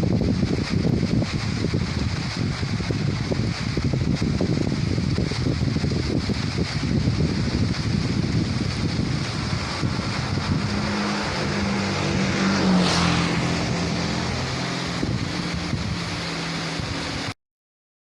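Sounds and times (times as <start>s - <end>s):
waterfall rushing: 0.8s - 17.4s
low droning hum: 1.5s - 17.3s.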